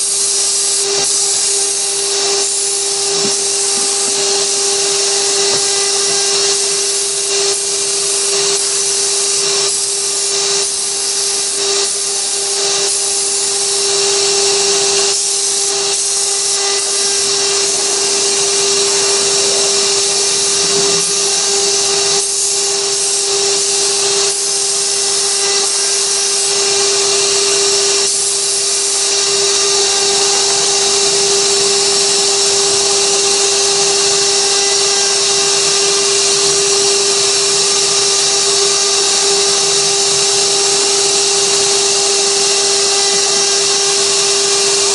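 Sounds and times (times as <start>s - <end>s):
hiss of bit cutting wood: 0.0s - 44.9s
router spindle whining: 0.0s - 44.9s.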